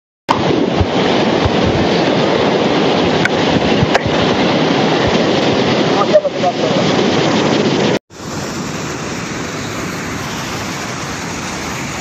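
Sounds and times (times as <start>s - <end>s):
flood water rushing: 0.3s - 12.0s.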